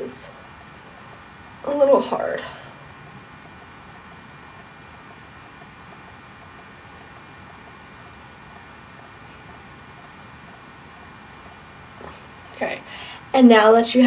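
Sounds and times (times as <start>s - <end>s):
light ticking: 0.0s - 13.4s
steady low hiss: 0.0s - 14.0s.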